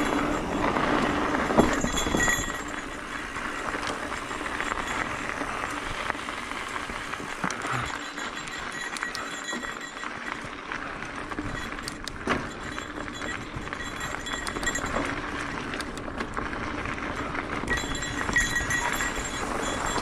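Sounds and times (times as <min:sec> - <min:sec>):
bike clicks and rattles: 0:00.0 - 0:20.0
mountain bike tyre noise: 0:00.0 - 0:20.0.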